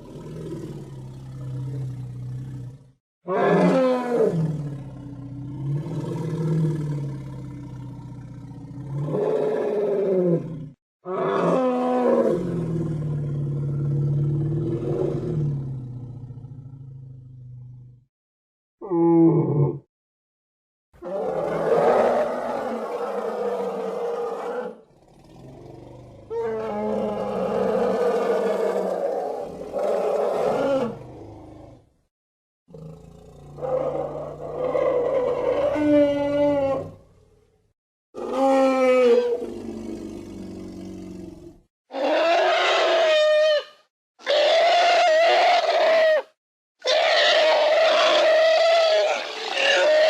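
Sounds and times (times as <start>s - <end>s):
mammoth roaring call: 0.0s - 18.0s, 18.8s - 19.9s, 21.0s - 31.8s, 32.7s - 37.1s, 38.2s - 50.0s.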